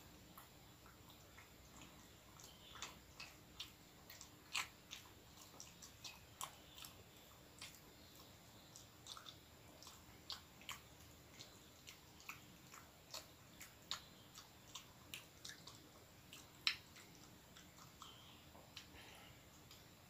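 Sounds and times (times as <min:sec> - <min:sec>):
person chewing bread: 0:00.0 - 0:20.0.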